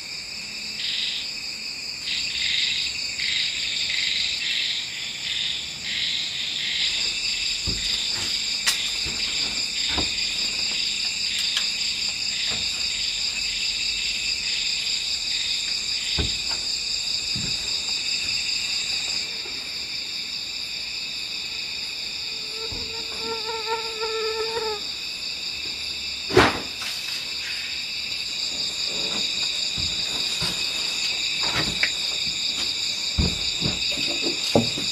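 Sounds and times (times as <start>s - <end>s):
crickets and insects trilling: 0.0s - 34.9s.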